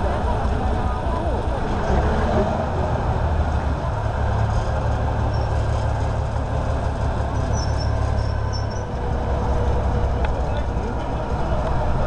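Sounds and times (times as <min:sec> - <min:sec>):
heavy engine deep rumble: 0:00.0 - 0:12.0.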